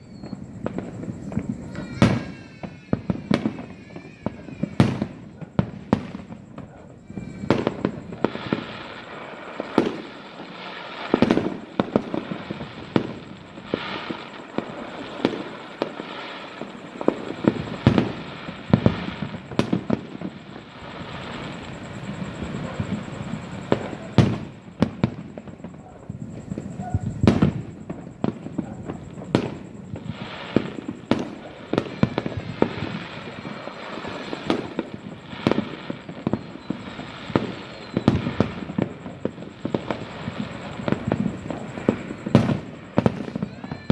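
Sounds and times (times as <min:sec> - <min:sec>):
fireworks bangs: 0:00.0 - 0:43.9
fireworks crackling: 0:00.0 - 0:43.9.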